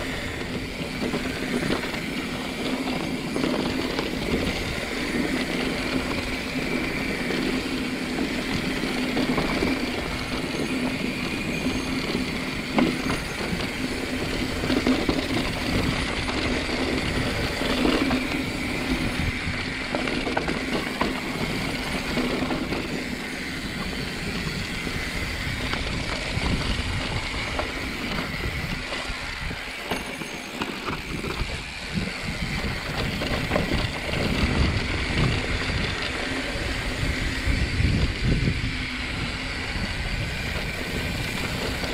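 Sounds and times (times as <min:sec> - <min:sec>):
bike knocking and rattling: 0:00.0 - 0:41.9
bike tyres rolling on dirt: 0:00.0 - 0:41.9.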